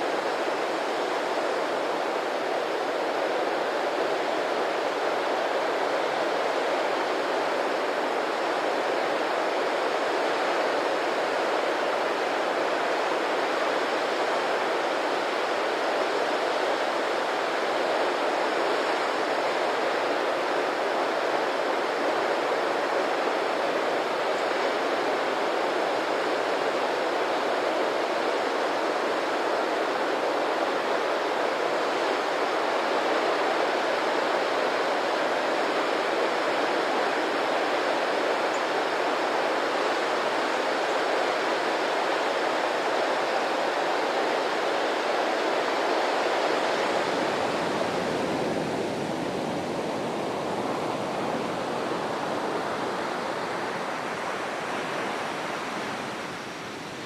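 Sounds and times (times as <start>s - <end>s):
rush of running water: 0.0s - 57.0s.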